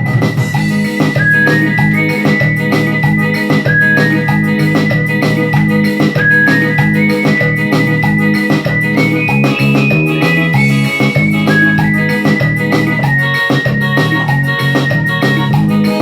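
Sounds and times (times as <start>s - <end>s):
programmed beat and bass: 0.0s - 16.0s
synth lead melody: 0.5s - 16.0s.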